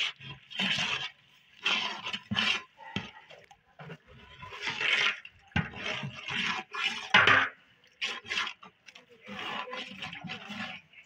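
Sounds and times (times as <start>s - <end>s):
metal ladle scraping a pot: 0.0s - 11.0s.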